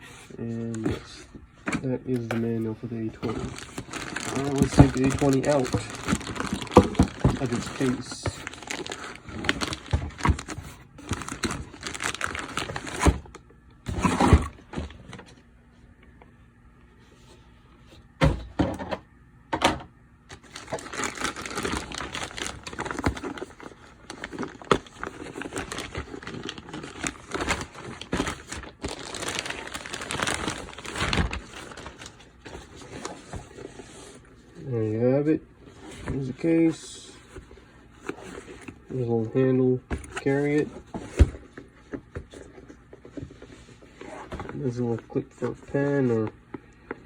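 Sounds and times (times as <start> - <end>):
cardboard and plastic rustling: 0.0 - 16.3, 20.3 - 47.0.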